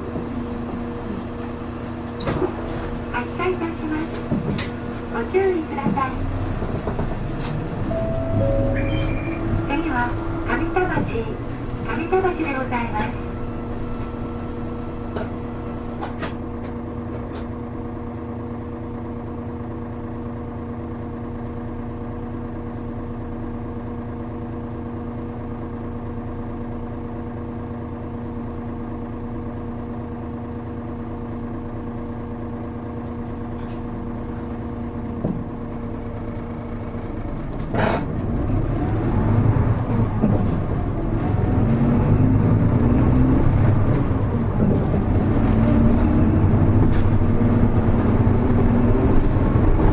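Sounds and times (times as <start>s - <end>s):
bus diesel engine humming: 0.0s - 49.9s.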